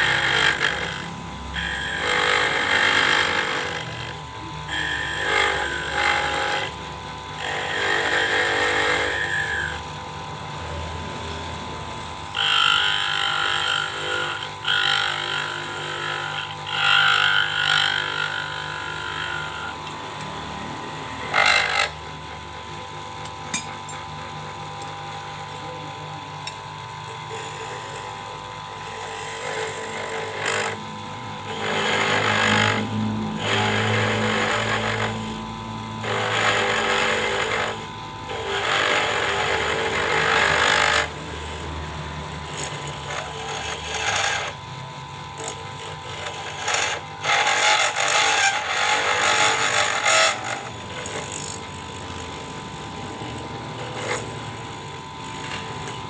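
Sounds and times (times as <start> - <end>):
tool scraping spinning workpiece: 0.0 - 9.9, 10.5 - 24.9, 26.4 - 44.8, 45.4 - 56.0
lathe whining: 0.0 - 56.0.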